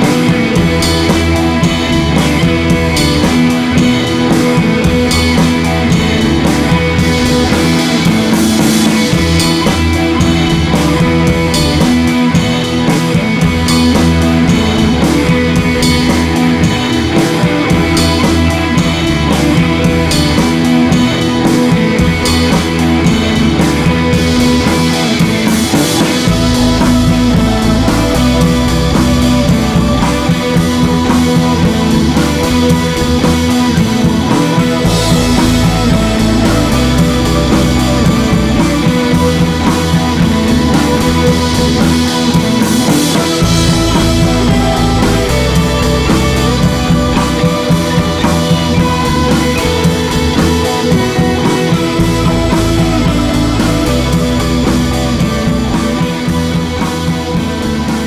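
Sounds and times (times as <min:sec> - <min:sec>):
deep bass layer: 0:00.0 - 0:58.0
rock music with guitar and drums: 0:00.0 - 0:58.0.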